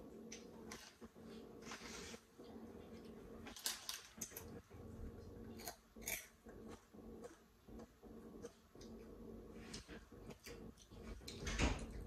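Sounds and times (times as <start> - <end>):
low steady hum: 0.0 - 12.0
child eating chips: 0.3 - 12.0.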